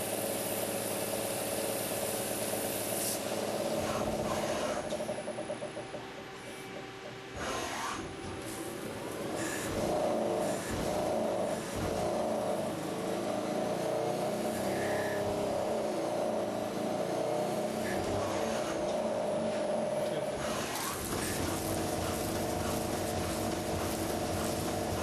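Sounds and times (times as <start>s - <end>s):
lathe motor hum: 0.0s - 25.0s.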